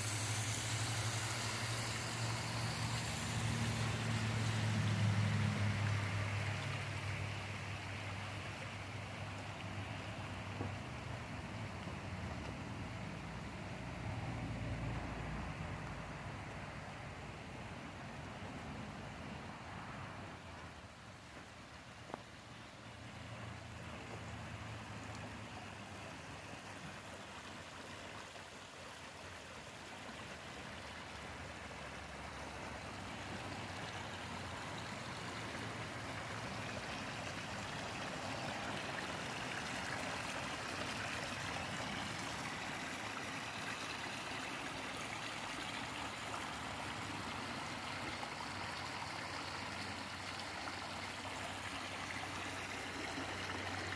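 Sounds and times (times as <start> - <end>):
creek water rushing over rocks: 0.0 - 53.9.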